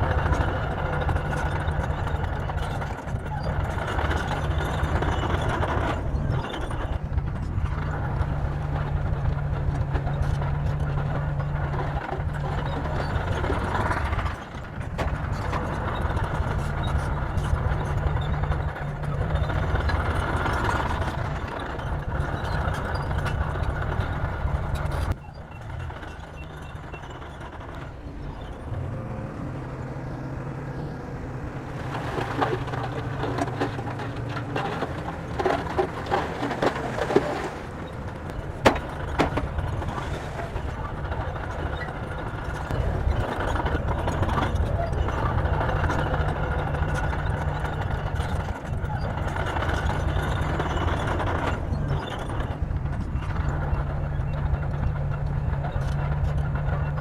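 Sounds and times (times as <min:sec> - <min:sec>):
heavy diesel engines working: 0:00.0 - 0:57.0.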